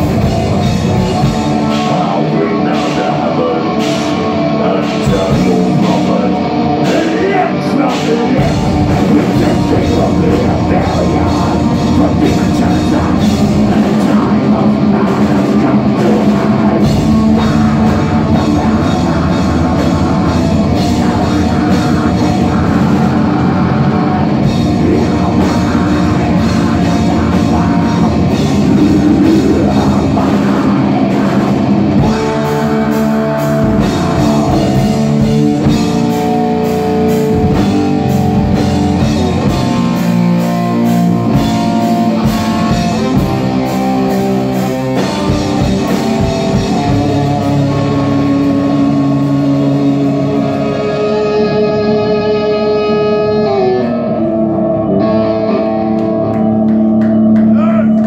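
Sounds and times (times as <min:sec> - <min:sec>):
drumming: 0:00.0 - 0:51.4
bass guitar: 0:00.0 - 0:58.0
distorted electric guitars: 0:00.0 - 0:58.0.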